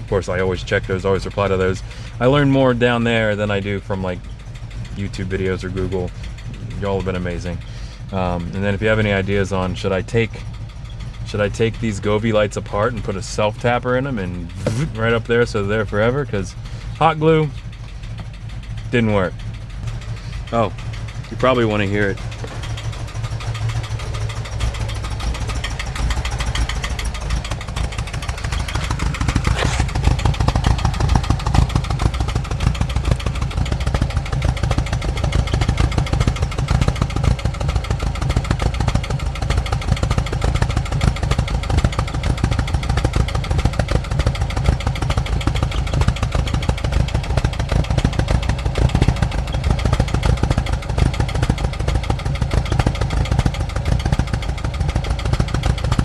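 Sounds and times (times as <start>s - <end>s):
engine exhaust idling roughly: 0.0s - 56.0s.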